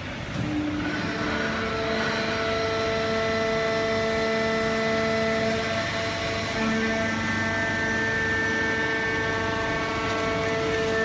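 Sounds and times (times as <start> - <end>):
baler machine running: 0.0 - 11.0
machine whine: 0.0 - 11.0.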